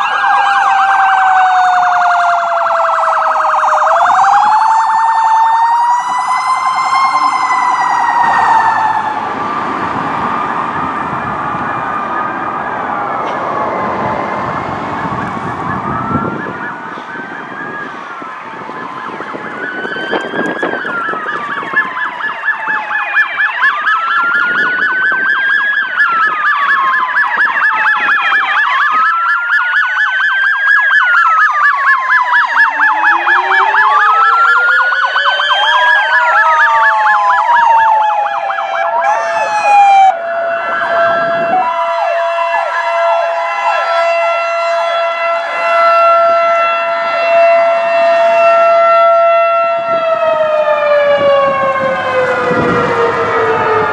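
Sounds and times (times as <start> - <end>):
electronic siren yelp: 0.0 - 53.9
wailing sirens: 0.0 - 53.9.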